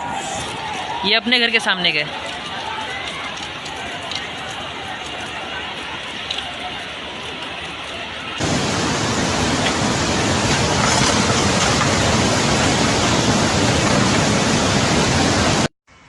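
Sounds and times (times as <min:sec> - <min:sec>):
floodwater roaring: 0:00.0 - 0:15.7.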